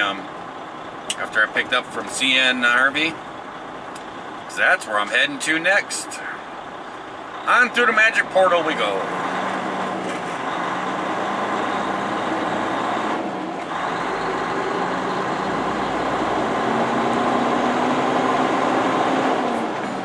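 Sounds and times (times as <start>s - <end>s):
diesel truck engine hum: 0.0s - 20.0s.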